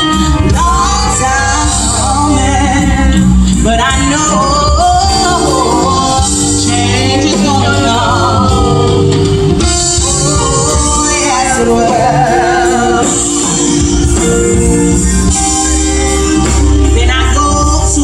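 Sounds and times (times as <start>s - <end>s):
instrumental accompaniment: 0.0s - 18.0s
person singing with vibrato: 0.0s - 18.0s.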